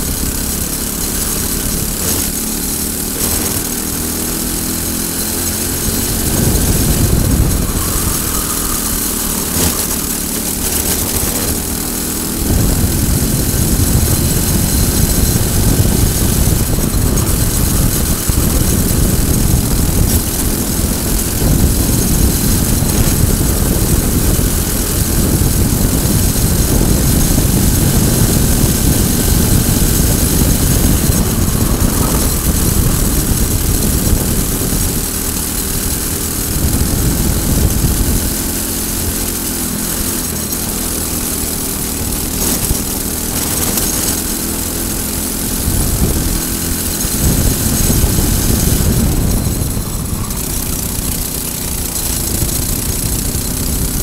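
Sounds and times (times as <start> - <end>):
kart engine at full throttle: 0.0 - 54.0
wind noise: 0.0 - 54.0.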